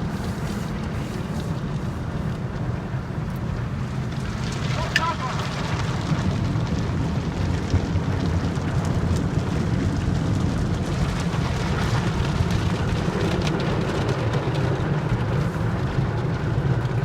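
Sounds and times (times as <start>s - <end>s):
car wash rushing rumble: 0.0s - 17.0s.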